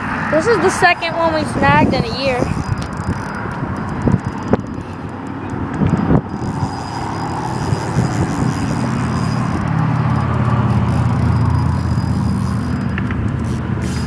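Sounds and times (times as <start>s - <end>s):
road traffic passing: 0.0s - 14.0s
vehicle engine hum: 0.0s - 14.0s.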